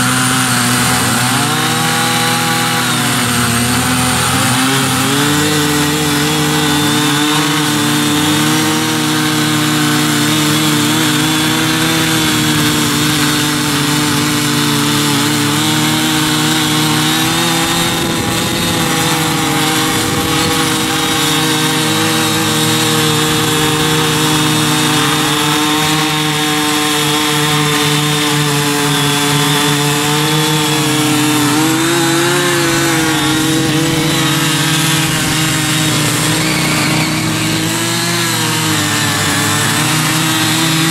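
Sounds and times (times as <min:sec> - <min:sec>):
small petrol engines running: 0:00.0 - 0:40.9
tilling blades breaking soil: 0:00.0 - 0:40.9.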